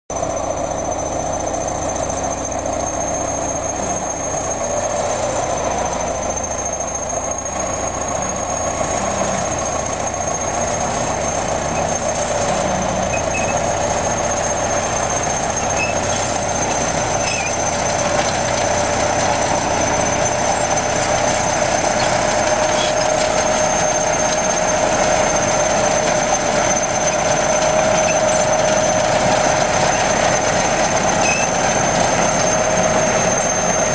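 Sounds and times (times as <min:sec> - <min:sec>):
bulldozer pushing earth: 0:00.1 - 0:33.9.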